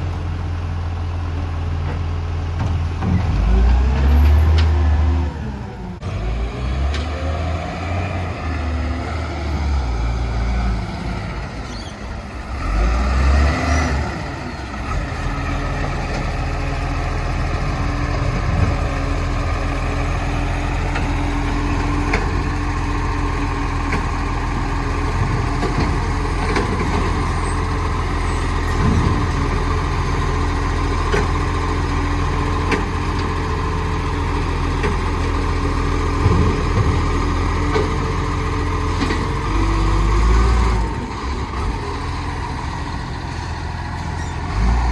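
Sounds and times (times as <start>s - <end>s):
garbage truck engine hum: 0.0s - 44.9s.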